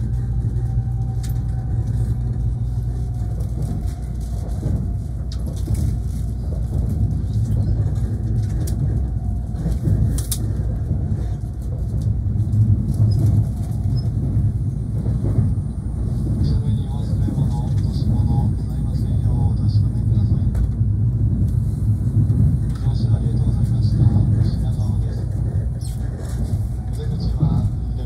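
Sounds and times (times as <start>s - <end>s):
train cabin low rumble: 0.0s - 28.0s.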